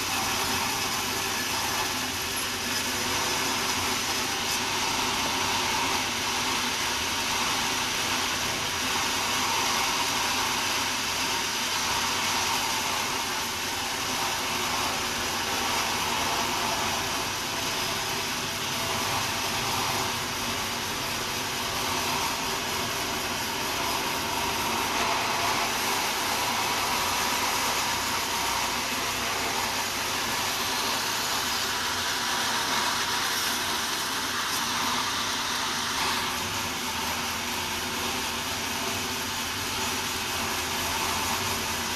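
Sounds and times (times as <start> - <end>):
sawmill saw cutting log: 0.0 - 41.9.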